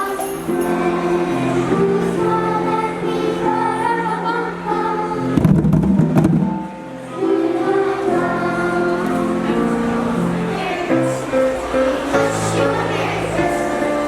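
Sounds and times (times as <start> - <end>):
voices singing long held notes: 0.0 - 5.6, 6.6 - 14.0.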